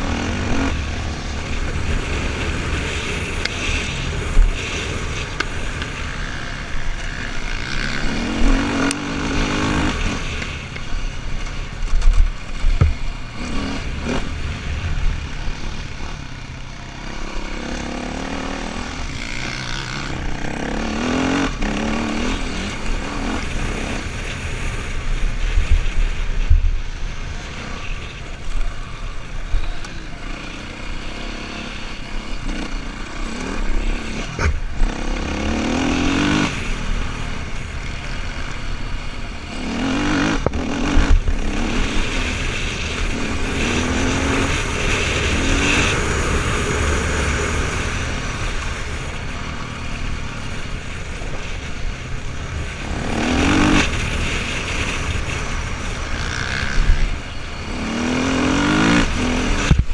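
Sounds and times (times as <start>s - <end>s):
motorcycle engine revving hard: 0.0s - 10.6s, 11.9s - 26.5s, 30.1s - 59.9s.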